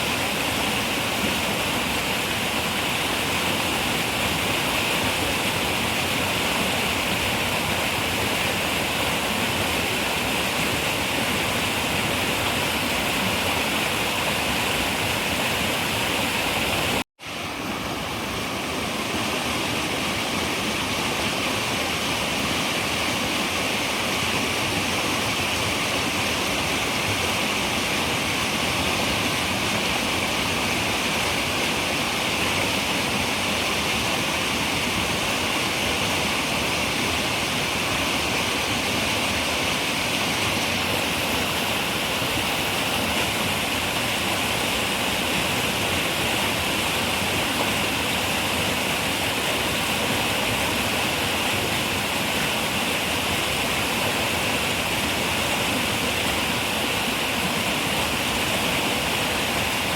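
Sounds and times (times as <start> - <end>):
river water running over rocks: 0.0 - 59.9.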